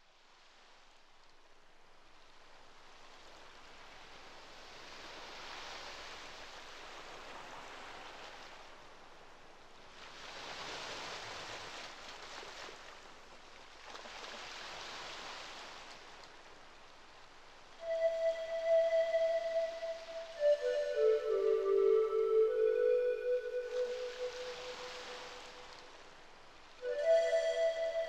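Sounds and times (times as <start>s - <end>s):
ocean waves washing ashore: 2.0s - 28.0s.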